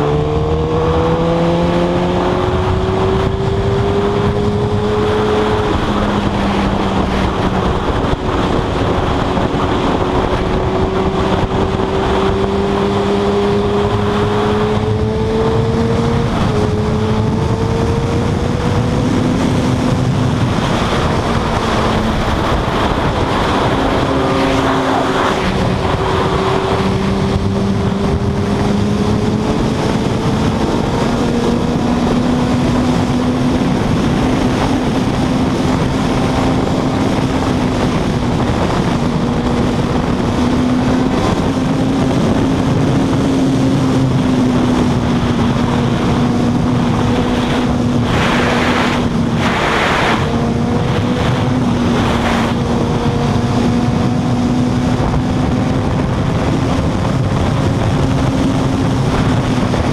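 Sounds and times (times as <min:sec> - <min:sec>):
motorcycle engine at high revs: 0:00.0 - 0:59.9
wind rush on microphone: 0:00.0 - 0:59.9.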